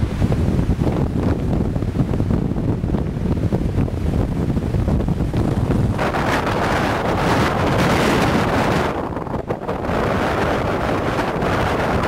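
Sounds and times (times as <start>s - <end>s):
gust rushing hiss: 0.0s - 12.0s
wind buffeting microphone: 0.0s - 12.0s.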